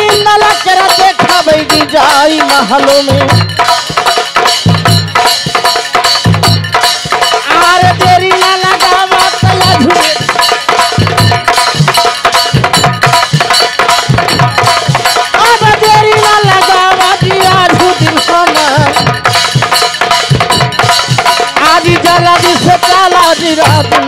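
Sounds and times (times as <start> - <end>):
quick drum rhythm: 0.0 - 24.0.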